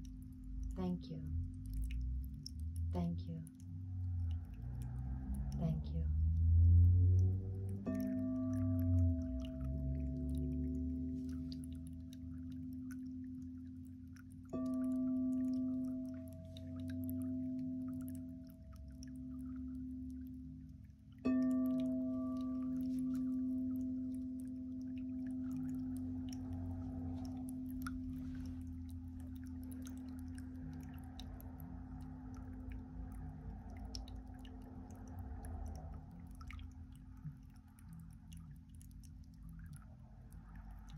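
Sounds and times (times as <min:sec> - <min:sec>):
fountain trickling: 0:00.0 - 0:40.9
water drips: 0:00.0 - 0:40.9.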